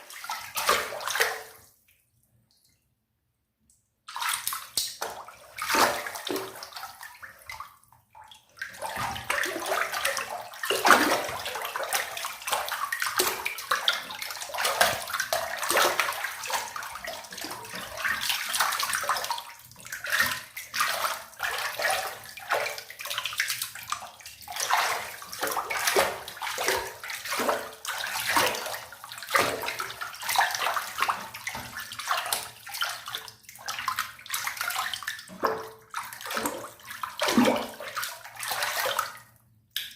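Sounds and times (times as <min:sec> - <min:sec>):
water splashing in a bathtub: 0:00.0 - 0:03.0, 0:03.7 - 0:39.9.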